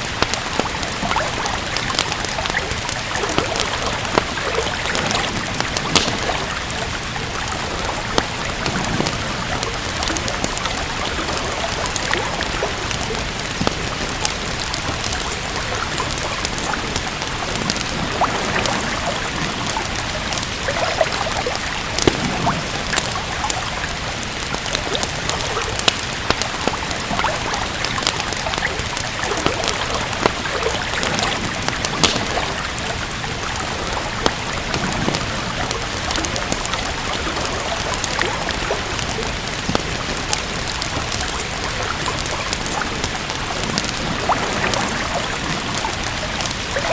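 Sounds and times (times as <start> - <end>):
steady rain: 0.0 - 46.9
wood fire crackling: 0.0 - 46.9.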